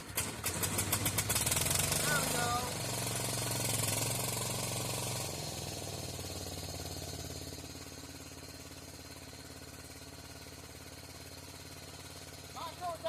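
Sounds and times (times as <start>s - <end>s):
riding mower engine running: 0.0s - 13.0s.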